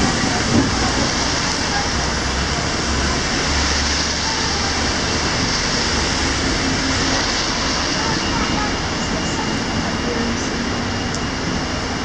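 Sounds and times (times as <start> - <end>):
bus engine idling: 0.0 - 12.0
rain on a wet street: 0.0 - 12.0.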